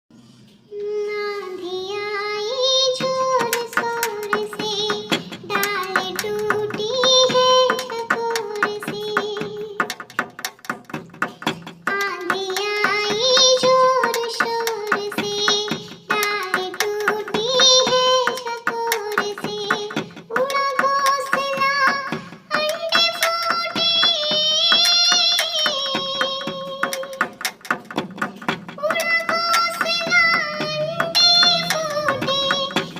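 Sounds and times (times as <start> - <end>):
child singing: 0.7 - 10.4, 11.2 - 27.5, 28.8 - 32.9.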